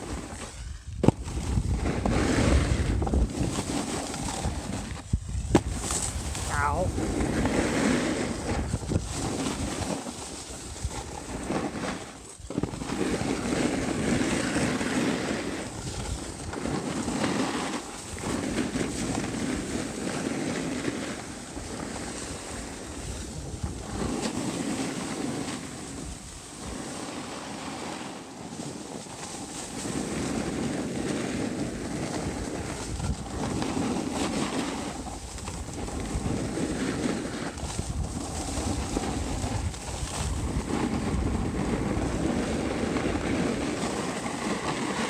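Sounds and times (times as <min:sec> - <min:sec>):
wind buffeting microphone: 0:00.0 - 0:26.8, 0:29.7 - 0:45.0
skis scraping over snow: 0:00.0 - 0:45.0.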